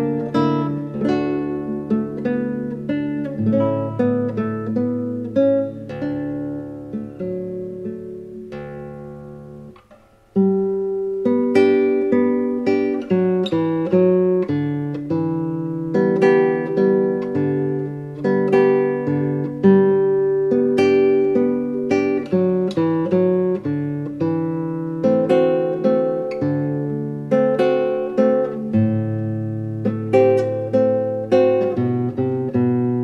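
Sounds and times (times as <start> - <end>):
acoustic guitar plucked melody: 0.0 - 33.0.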